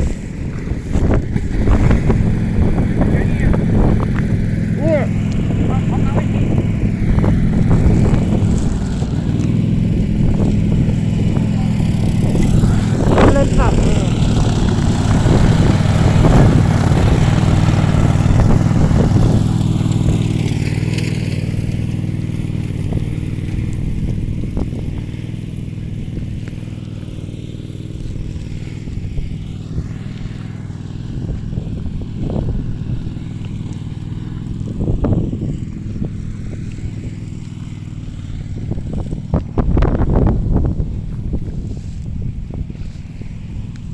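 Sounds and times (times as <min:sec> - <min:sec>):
brush cutter engine running: 0:00.0 - 0:43.9.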